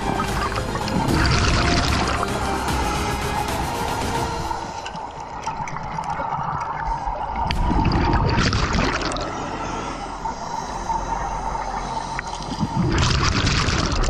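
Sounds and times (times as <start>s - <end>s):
exhaled bubbles underwater: 0.0s - 2.3s, 4.8s - 14.0s
steady underwater hiss: 0.0s - 14.0s.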